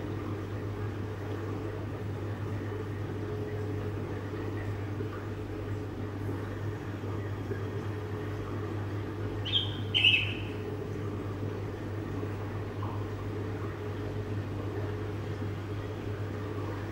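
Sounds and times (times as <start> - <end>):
aquarium pump hum: 0.0 - 16.9.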